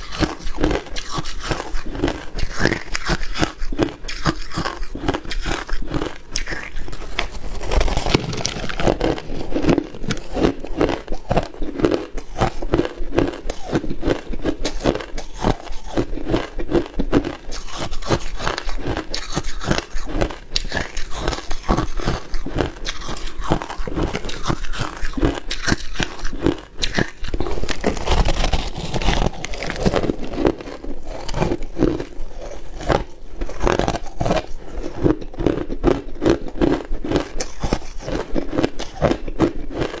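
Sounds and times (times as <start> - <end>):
chewing crushed ice: 0.0 - 40.0.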